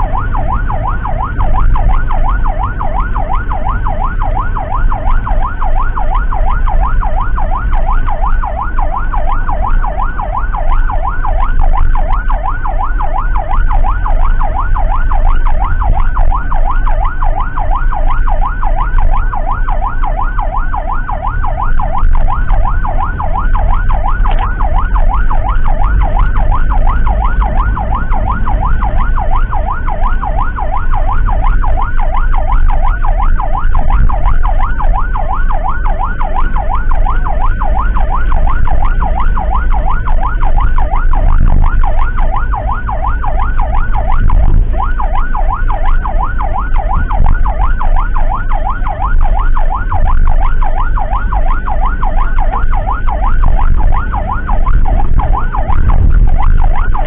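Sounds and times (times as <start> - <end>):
emergency siren yelping: 0.0 - 57.0
vehicle low rumble: 0.0 - 57.0.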